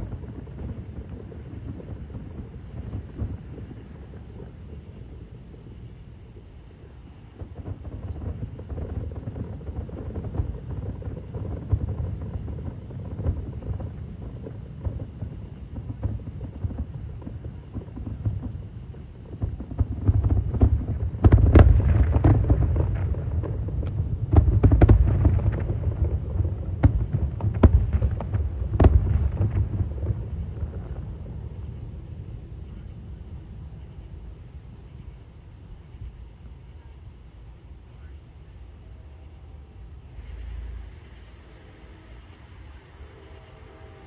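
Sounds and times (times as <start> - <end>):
fireworks sharp bangs: 0.0 - 34.0, 40.1 - 44.0
distant fireworks booming: 0.0 - 44.0.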